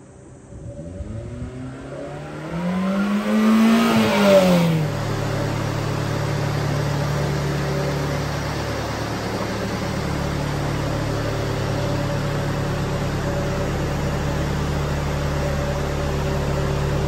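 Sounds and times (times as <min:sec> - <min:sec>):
truck engine revving and idling: 0:00.0 - 0:17.0.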